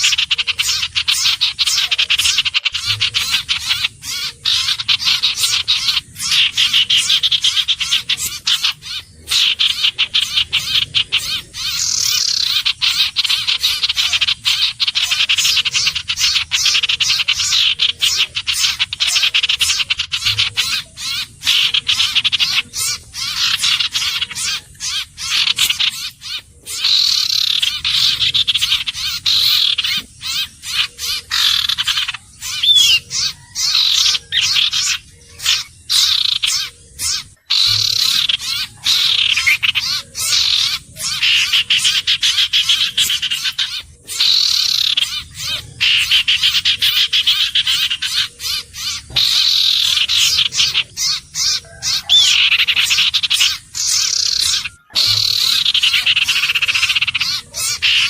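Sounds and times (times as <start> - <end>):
bird calling in rattling trills: 0.0 - 58.0.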